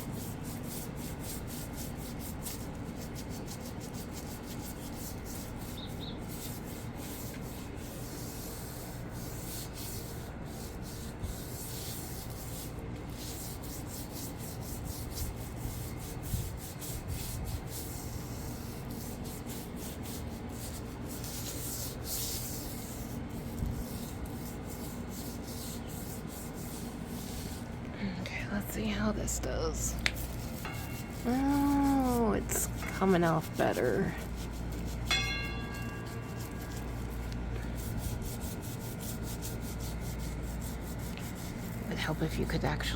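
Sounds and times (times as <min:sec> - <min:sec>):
scrubbing a surface: 0:00.0 - 0:27.8, 0:28.6 - 0:42.9.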